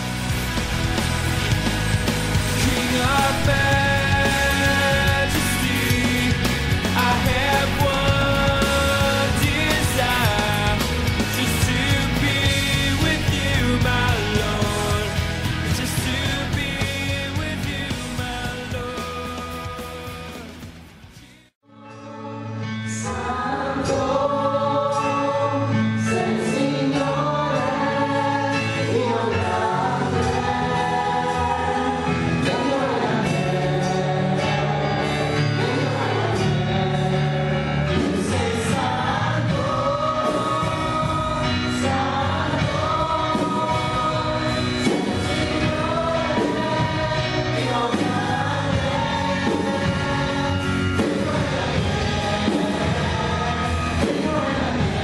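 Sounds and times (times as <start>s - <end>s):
group of voices singing: 0.0s - 20.6s, 21.7s - 55.0s
keyboard accompaniment: 0.0s - 21.1s, 21.7s - 55.0s.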